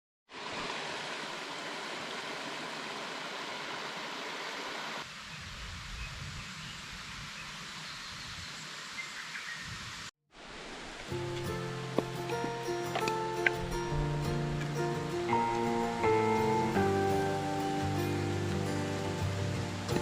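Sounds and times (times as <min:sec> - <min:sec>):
outdoor background noise: 0:00.3 - 0:20.0.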